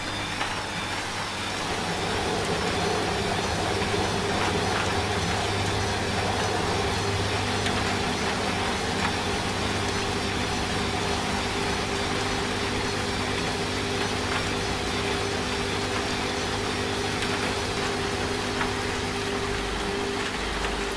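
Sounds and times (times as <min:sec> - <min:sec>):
rain hissing: 0:00.0 - 0:20.9
washing machine humming: 0:00.0 - 0:20.9.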